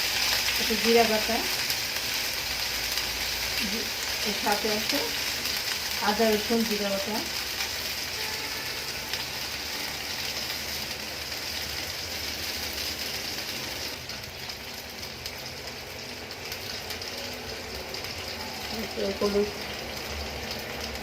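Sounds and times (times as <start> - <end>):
food frying in hot oil: 0.0 - 21.0.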